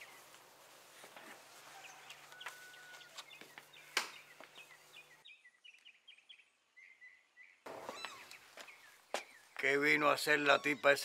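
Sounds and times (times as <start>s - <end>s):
faint rural outdoor ambience: 0.0s - 11.0s
small birds chirping: 0.0s - 11.0s.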